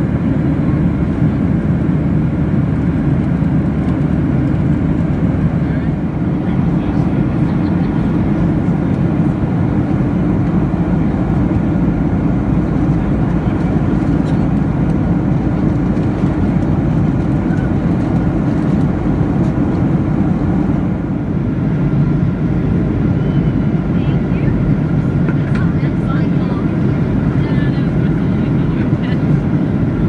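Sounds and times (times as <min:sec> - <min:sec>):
airplane cabin engine roar: 0:00.0 - 0:30.0.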